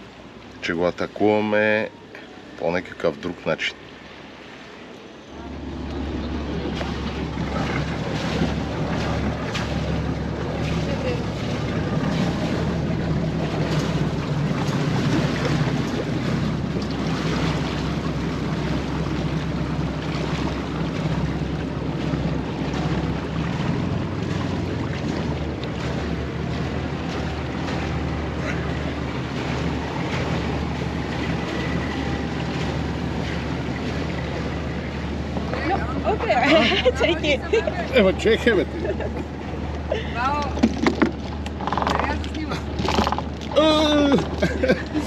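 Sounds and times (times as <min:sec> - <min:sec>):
boat engine running: 0:00.0 - 0:45.0
water rushing along hull: 0:00.0 - 0:45.0.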